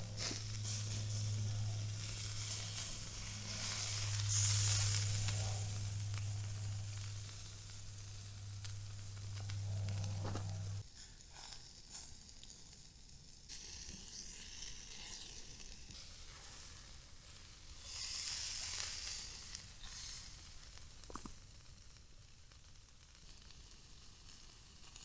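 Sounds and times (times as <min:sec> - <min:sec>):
meat patty sizzling on grill: 0:00.0 - 0:25.0.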